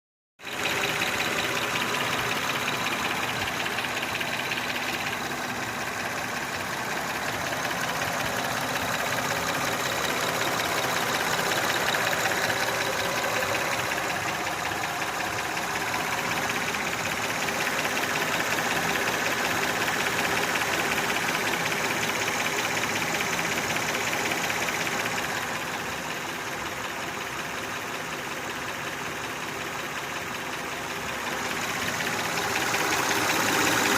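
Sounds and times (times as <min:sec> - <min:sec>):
car engine knocking: 0:00.4 - 0:33.9.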